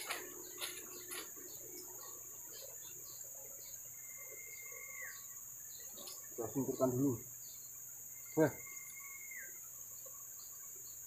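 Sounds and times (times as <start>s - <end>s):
insects chirring: 0.0s - 11.0s
short insect chirps: 0.0s - 11.0s.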